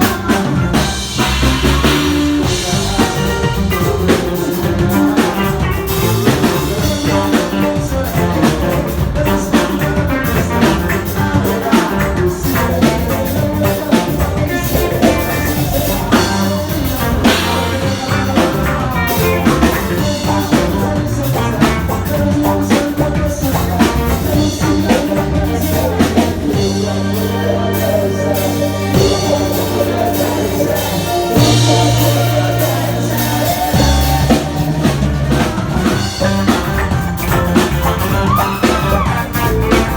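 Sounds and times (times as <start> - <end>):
person singing: 0.0 - 39.9
ska reggae band music: 0.0 - 39.9.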